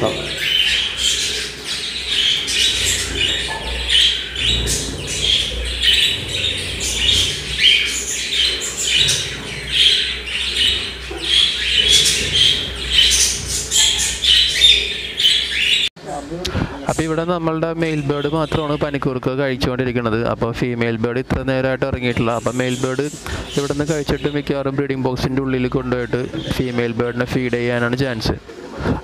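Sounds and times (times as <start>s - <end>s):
caged birds squawking and chirping: 0.0s - 29.0s.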